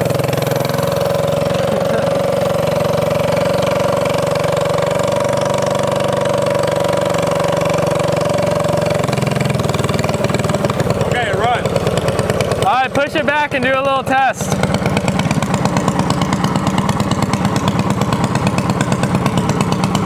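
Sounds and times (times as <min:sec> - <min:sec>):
go-kart engine idling: 0:00.0 - 0:20.0.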